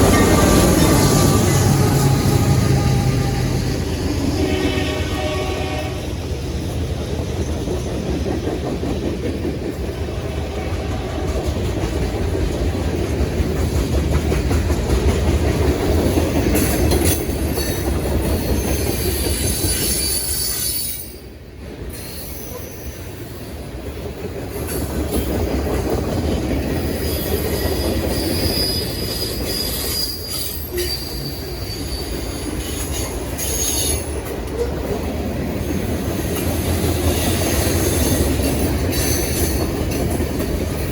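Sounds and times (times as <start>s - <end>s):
train wheels squealing and clicking: 0.0s - 4.1s, 11.2s - 40.9s
freight train low rumble: 0.0s - 40.9s.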